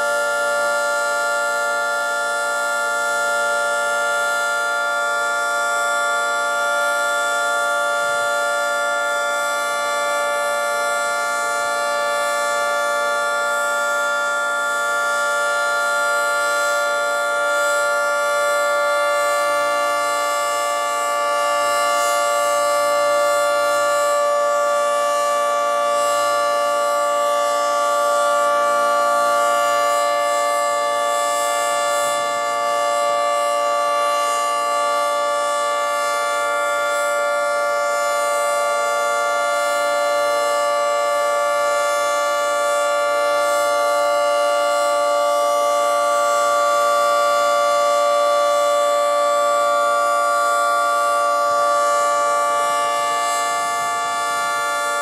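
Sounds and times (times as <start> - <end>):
dual-tone warning siren: 0.0 - 55.0.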